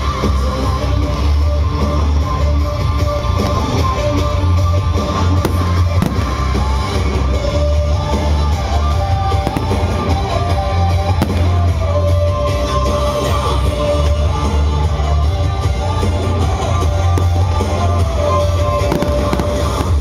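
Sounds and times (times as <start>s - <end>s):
fireworks bursting: 0.0s - 20.0s
rock music with heavy bass: 0.0s - 20.0s.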